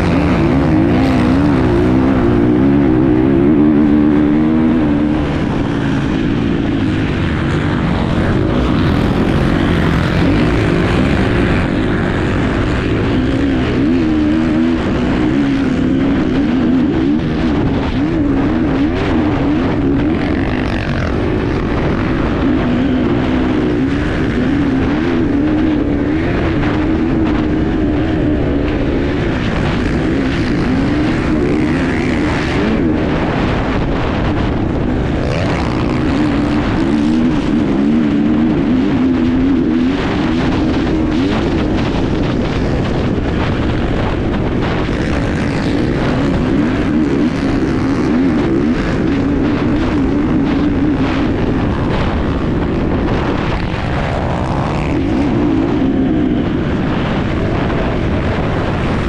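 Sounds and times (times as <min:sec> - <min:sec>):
dirt bike engine revving: 0:00.0 - 0:59.0
rushing noise: 0:00.0 - 0:59.0.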